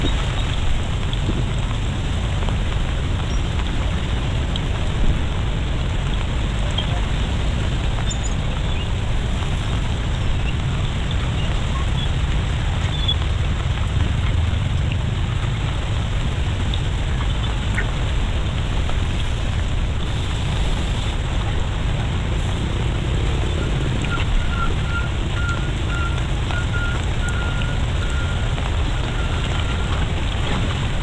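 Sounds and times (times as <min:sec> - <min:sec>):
flowing floodwater: 0:00.0 - 0:31.0
rain: 0:00.0 - 0:31.0.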